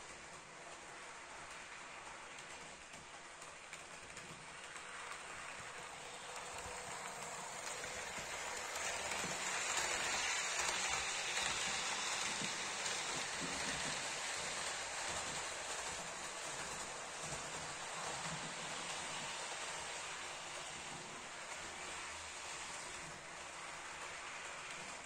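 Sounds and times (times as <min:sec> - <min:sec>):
model train wheels rattling on rails: 0:00.0 - 0:25.0.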